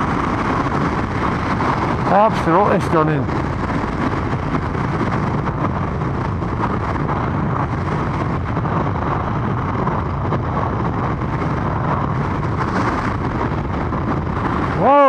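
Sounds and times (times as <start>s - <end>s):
motorcycle running: 0.0s - 15.0s
wind rushing over microphone: 0.0s - 15.0s.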